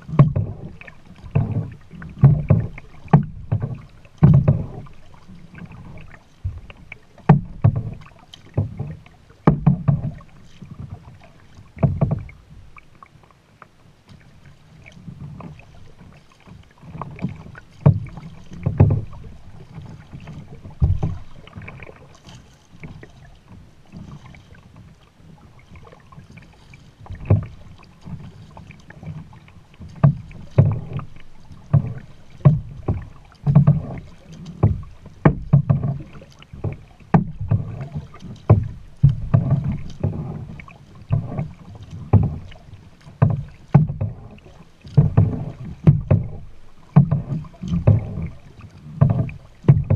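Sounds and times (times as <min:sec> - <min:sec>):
low thumps from kayak: 0:00.0 - 0:49.9
paddle splashing in water: 0:00.0 - 0:49.9.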